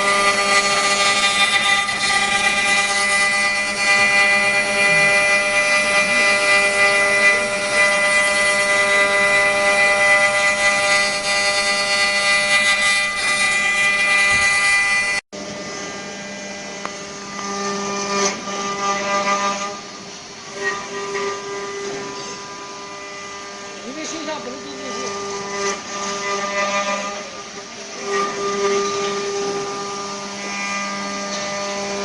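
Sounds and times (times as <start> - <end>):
cnc wood router whine: 0.0 - 32.0.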